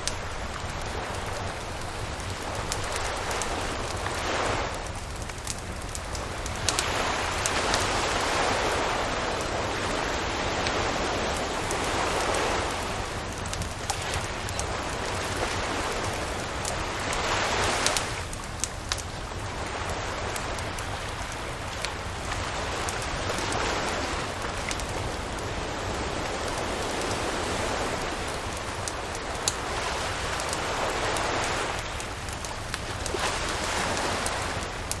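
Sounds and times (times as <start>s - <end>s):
campfire crackling and popping: 0.0s - 35.0s
waves of surf: 0.0s - 35.0s.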